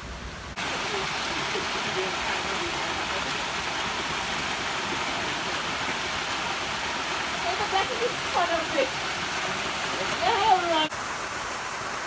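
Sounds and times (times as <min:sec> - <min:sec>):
waterfall rushing: 0:00.5 - 0:12.0.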